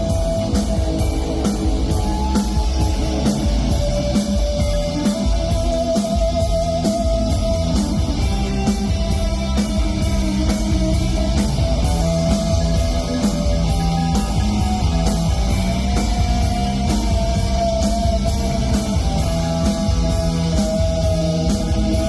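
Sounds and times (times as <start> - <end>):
lead guitar line: 0.0 - 22.0
rock band playing: 0.0 - 22.0.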